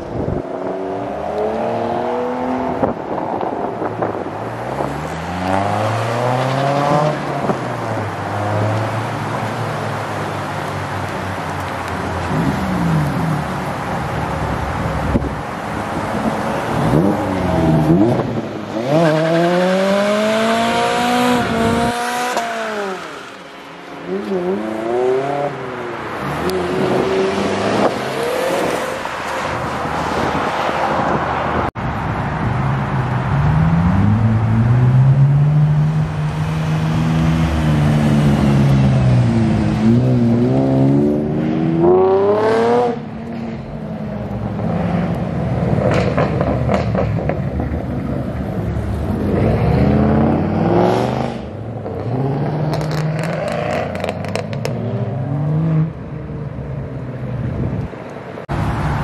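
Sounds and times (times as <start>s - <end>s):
car engines revving and accelerating: 0.0s - 59.0s.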